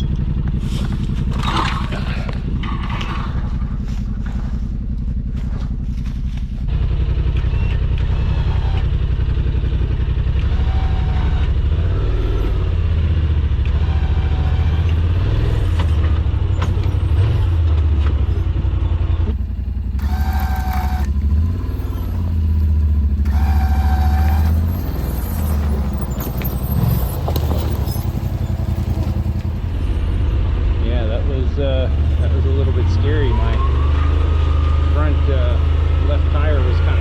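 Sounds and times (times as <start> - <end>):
utv engine running under load: 0.0 - 37.0.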